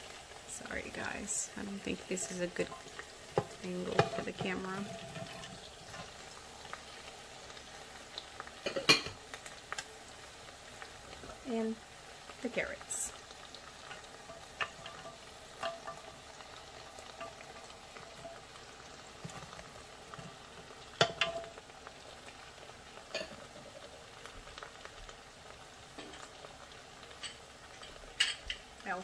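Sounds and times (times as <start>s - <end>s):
meat sizzling in a pot: 0.0s - 29.0s.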